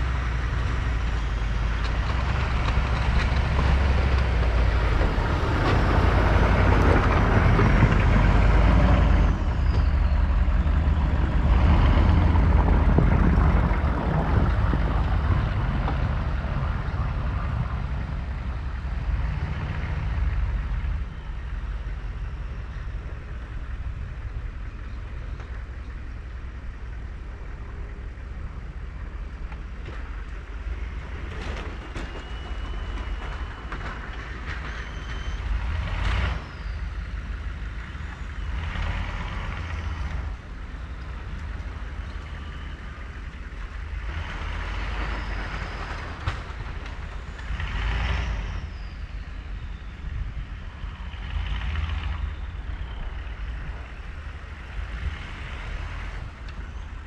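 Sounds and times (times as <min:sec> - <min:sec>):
snow plow scraping: 0:00.0 - 0:57.0
truck engine rumbling: 0:00.0 - 0:57.0.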